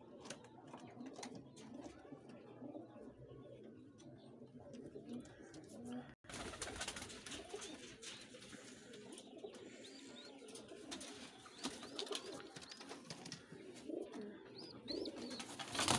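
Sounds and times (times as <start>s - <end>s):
pigeons cooing: 0.0s - 15.9s.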